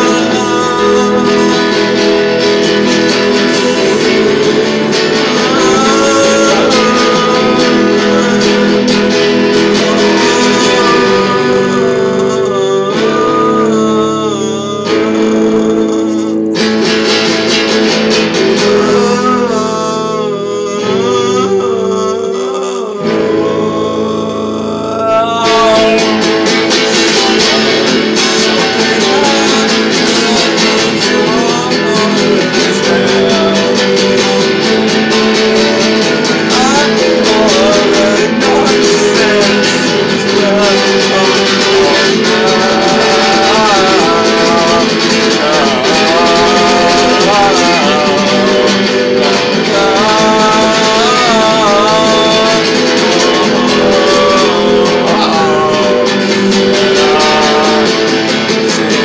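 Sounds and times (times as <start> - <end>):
guitar strumming: 0.0 - 59.0
man singing: 0.0 - 59.0.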